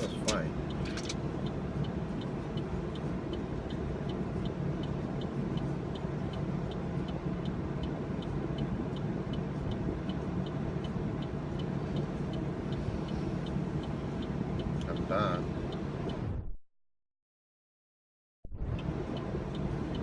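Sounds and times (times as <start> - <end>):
light regular ticking: 0.0 - 16.2, 18.7 - 20.0
car engine hum: 0.0 - 16.5, 18.5 - 20.0.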